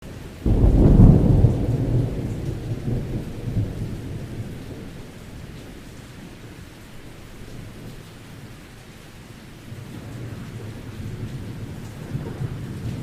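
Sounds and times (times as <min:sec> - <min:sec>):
steady rain: 0:00.0 - 0:13.0
thunder rumbling: 0:00.2 - 0:08.6, 0:09.6 - 0:13.0.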